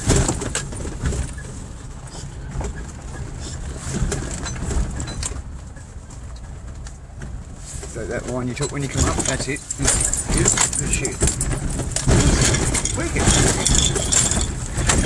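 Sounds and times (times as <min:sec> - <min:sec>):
vehicle knocks and rattles: 0:00.0 - 0:15.0.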